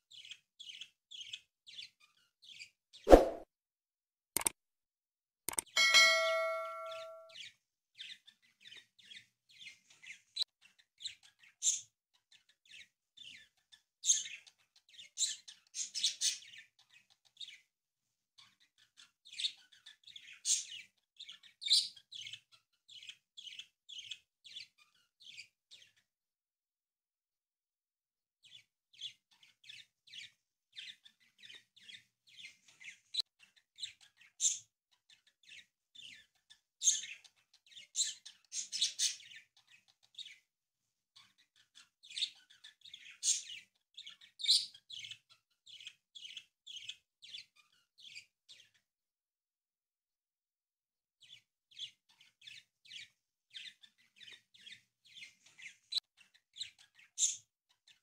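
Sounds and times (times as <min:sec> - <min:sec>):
small bird chirping: 0:00.0 - 0:03.4, 0:05.5 - 0:17.7, 0:18.4 - 0:26.1, 0:28.4 - 0:40.5, 0:41.2 - 0:48.9, 0:51.2 - 0:58.0.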